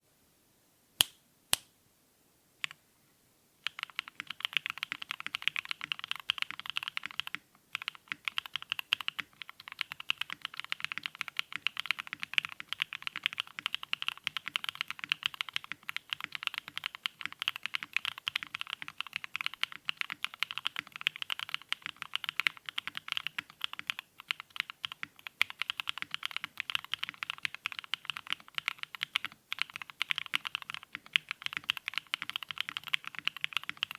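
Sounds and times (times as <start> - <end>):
typing on mechanical keyboard: 3.6 - 33.9.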